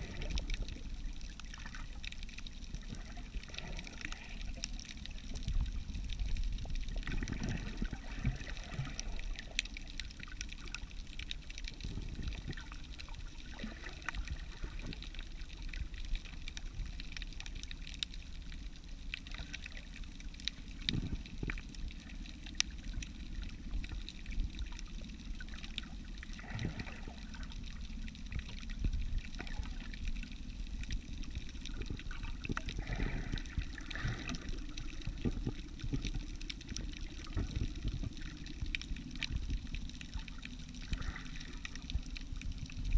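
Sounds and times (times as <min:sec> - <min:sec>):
muffled underwater water rumble: 0:00.0 - 0:42.9.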